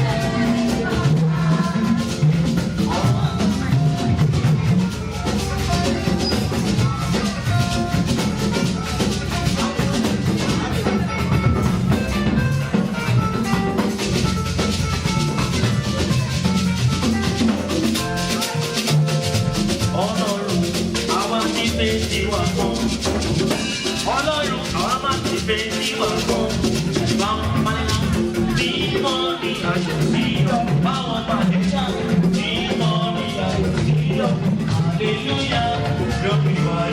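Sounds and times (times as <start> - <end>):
drum kit steady beat: 0.0 - 36.9
praise band music: 0.0 - 36.9.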